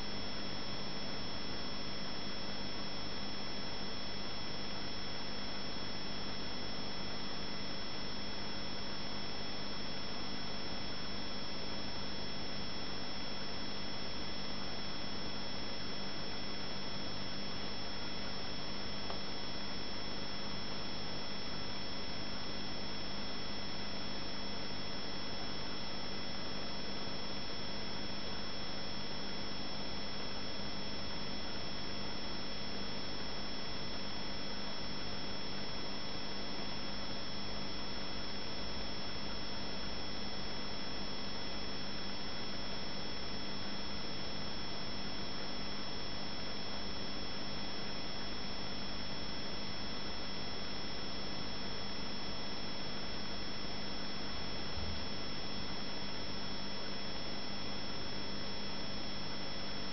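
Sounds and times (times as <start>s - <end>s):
aquarium hum: 0.0s - 59.9s.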